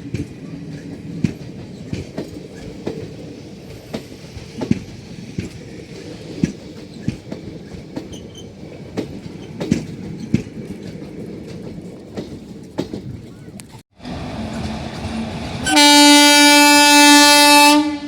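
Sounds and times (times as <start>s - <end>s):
train wheels clickety-clack: 0.0s - 16.2s
low rumble of train: 0.0s - 18.0s.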